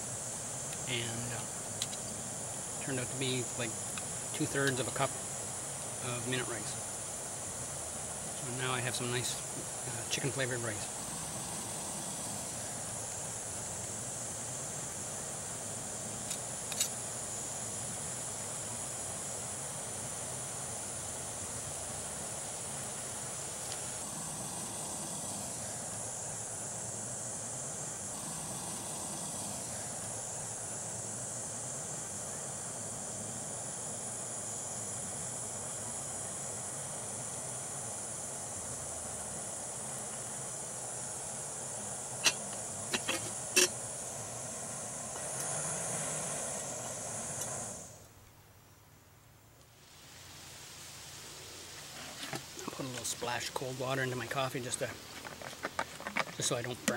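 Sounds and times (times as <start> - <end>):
gas stove burner hissing: 0.0 - 48.1, 49.7 - 56.9.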